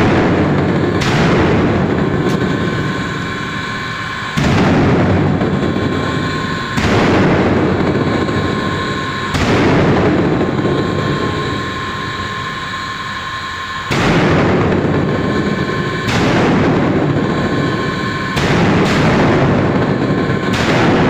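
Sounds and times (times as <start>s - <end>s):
loud booms: 0.0s - 12.8s, 13.9s - 21.0s
steady high whine: 0.0s - 21.0s.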